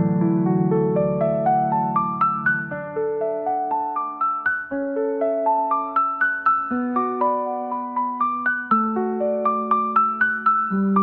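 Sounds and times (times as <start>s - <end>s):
piano arpeggios: 0.0s - 11.0s.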